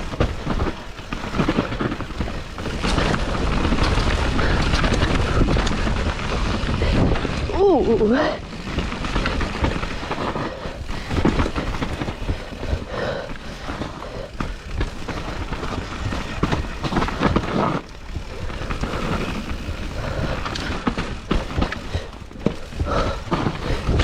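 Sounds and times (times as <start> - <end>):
bike knocking and rattling: 0.0 - 24.0
bike tyres on dirt: 0.0 - 24.0.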